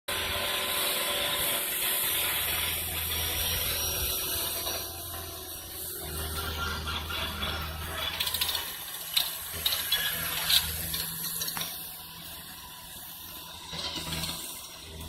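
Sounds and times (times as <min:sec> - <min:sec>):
skid steer engine drone: 0:00.1 - 0:15.0.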